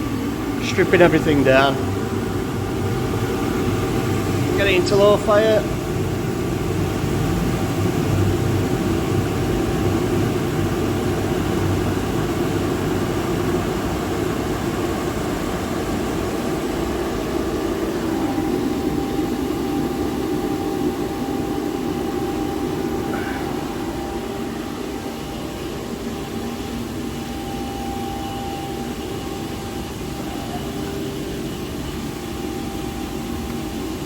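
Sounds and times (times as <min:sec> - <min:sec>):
boiler burner roaring: 0:00.0 - 0:34.0
steady hum: 0:00.0 - 0:34.0.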